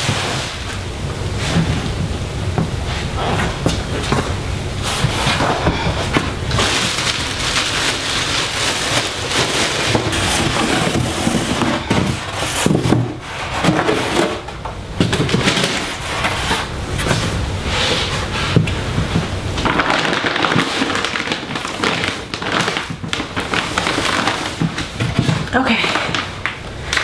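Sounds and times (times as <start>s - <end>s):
plastic rustling and crackling: 0.0s - 27.0s.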